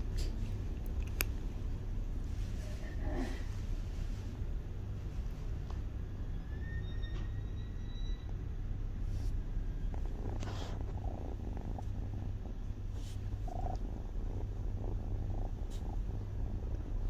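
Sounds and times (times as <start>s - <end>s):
kitten purring: 0.0s - 5.6s, 8.0s - 17.0s.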